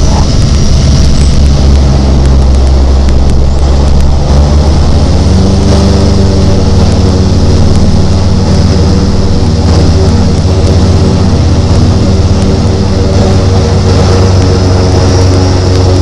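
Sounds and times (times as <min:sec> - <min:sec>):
turboprop engines running loud: 0:00.0 - 0:16.0.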